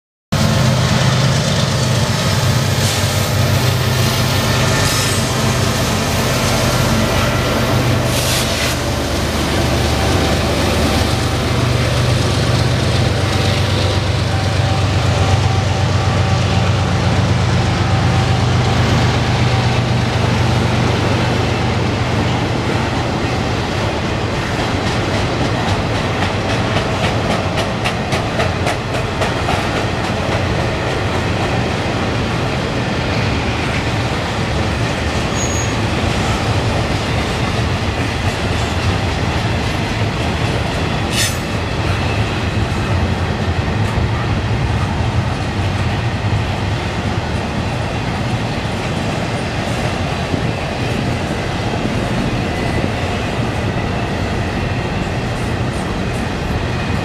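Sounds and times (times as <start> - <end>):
train wheels rumbling on rails: 0.3 - 57.0.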